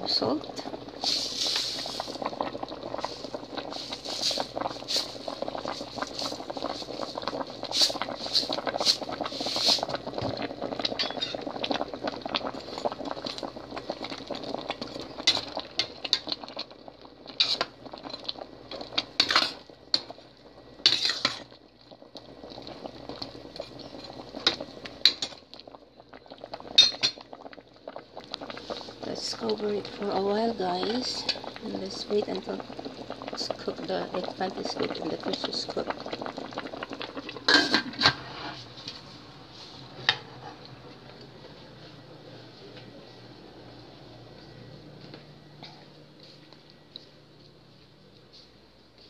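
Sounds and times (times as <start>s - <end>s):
soup bubbling in a pot: 0.0s - 42.2s.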